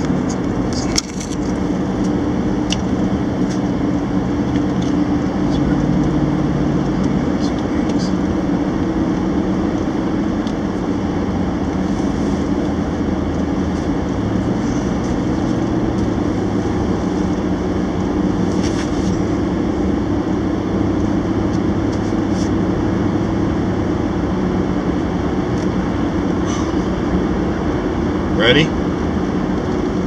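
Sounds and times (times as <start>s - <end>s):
car engine drone: 0.0s - 30.0s.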